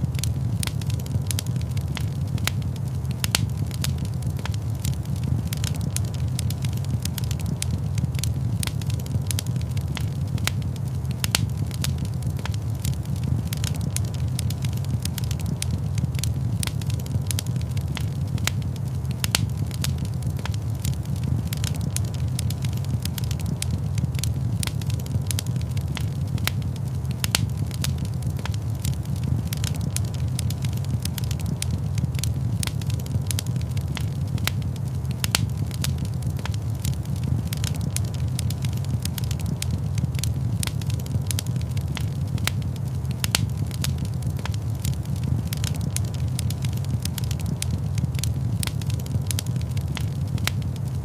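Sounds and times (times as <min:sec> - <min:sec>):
low fire rumble: 0:00.0 - 0:51.0
wood fire crackling and popping: 0:00.0 - 0:51.0.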